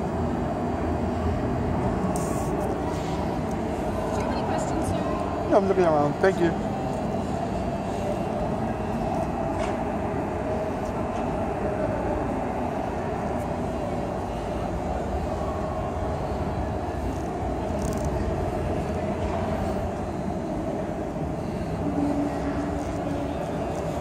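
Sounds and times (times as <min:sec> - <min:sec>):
exhibition hall din: 0:00.0 - 0:24.0.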